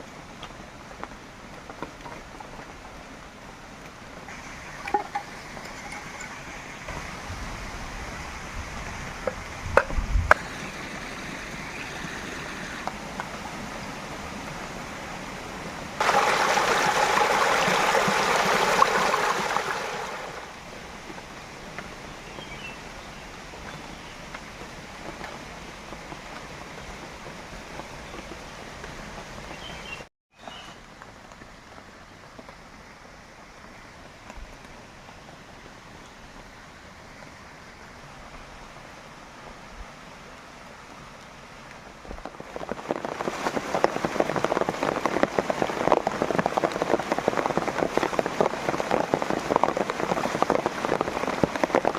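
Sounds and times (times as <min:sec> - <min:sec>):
water surging: 0:00.1 - 0:30.1, 0:33.0 - 0:51.9
running water rushing: 0:02.2 - 0:30.1, 0:32.4 - 0:51.9.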